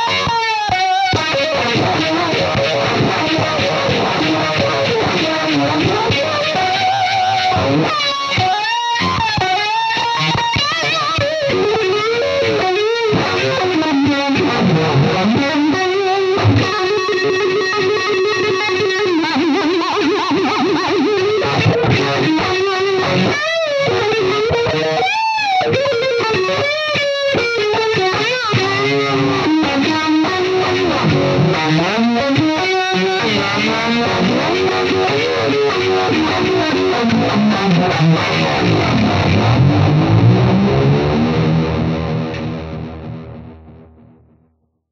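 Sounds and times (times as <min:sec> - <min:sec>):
distorted electric guitar lead: 0:00.0 - 0:44.5.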